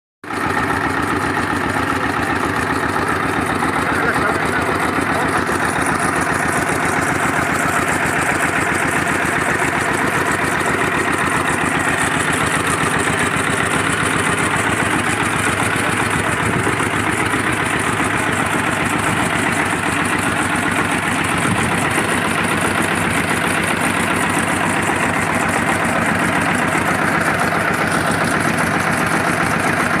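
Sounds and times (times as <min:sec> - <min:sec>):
diesel tractor engine idling: 0:00.2 - 0:30.0.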